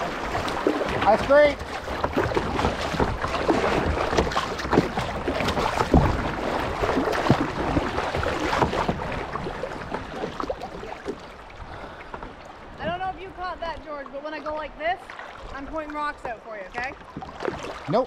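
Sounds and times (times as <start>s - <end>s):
water splashing around kayak: 0.0s - 18.0s.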